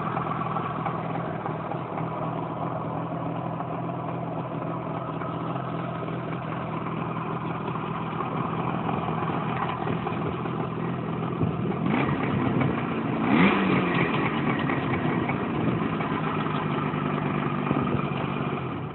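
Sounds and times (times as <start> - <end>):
two-stroke motorcycle engine idling: 0.0 - 18.9.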